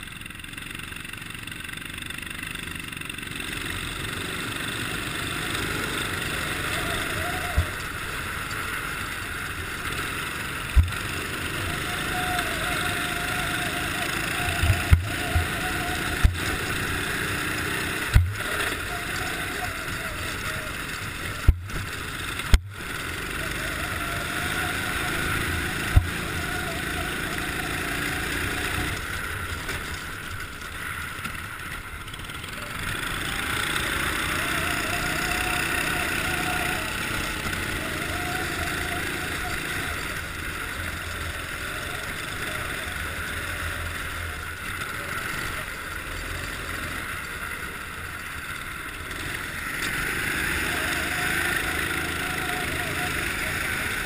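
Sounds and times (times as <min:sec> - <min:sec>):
kart engine running: 0:00.0 - 0:54.0
tyres rushing on ice: 0:03.9 - 0:54.0.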